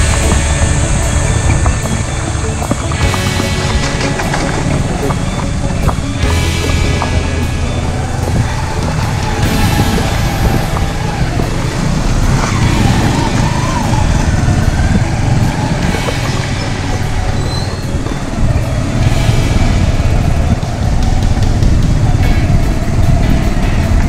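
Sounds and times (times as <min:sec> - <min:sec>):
motorcycle engine drone: 0:00.0 - 0:24.0
wind rumble on microphone: 0:00.0 - 0:24.0.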